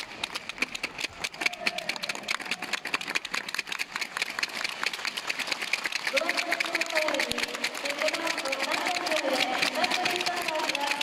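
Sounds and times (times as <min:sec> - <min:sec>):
spectators clapping: 0:00.0 - 0:11.0.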